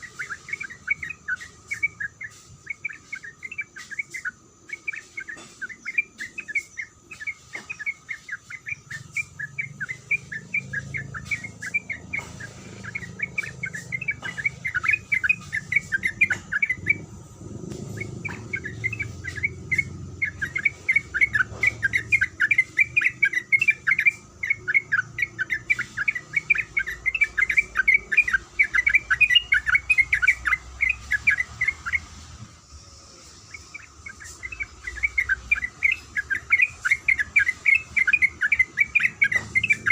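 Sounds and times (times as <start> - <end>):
bird singing warbled notes: 0.0 - 32.2, 32.9 - 39.9.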